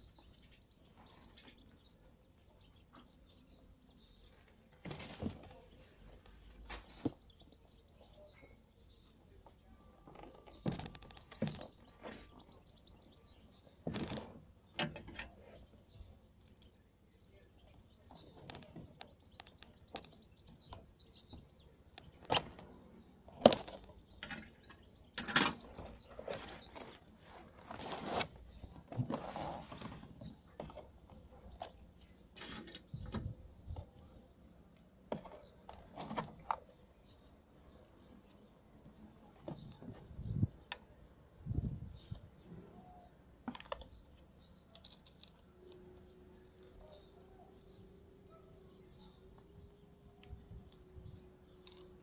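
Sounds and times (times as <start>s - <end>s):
faint birds chirping: 0.0s - 52.0s.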